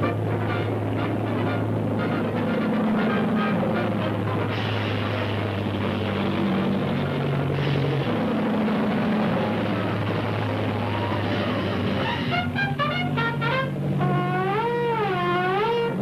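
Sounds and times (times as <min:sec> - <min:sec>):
low hum: 0:00.0 - 0:16.0
rocket engine mechanical din: 0:00.0 - 0:16.0.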